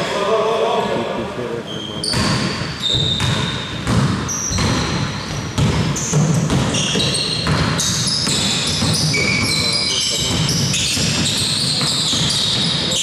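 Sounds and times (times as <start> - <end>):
shoes squeaking on floor: 1.7 - 13.0
basketball bouncing: 2.1 - 13.0.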